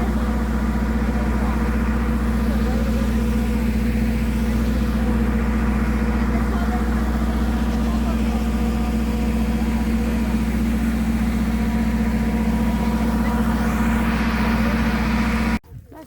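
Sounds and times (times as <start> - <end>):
engine humming: 0.0 - 15.6.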